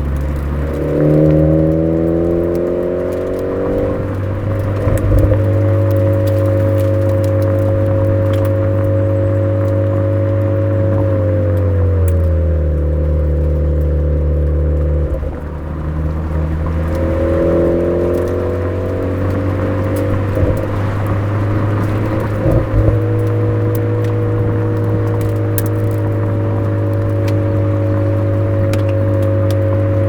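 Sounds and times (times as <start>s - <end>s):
car exhaust note: 0.0s - 30.0s
low thumps: 0.0s - 30.0s.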